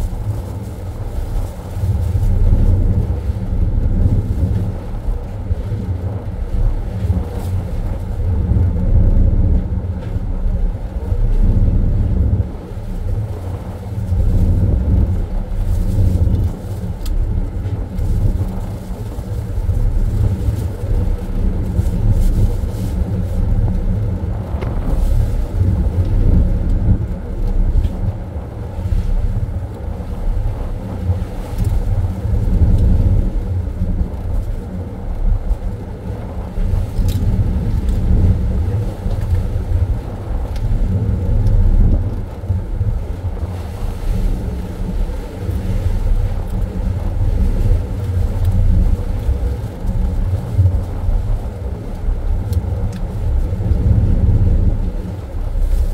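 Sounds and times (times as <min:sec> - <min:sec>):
ship machinery rumble and hum: 0:00.0 - 0:55.9.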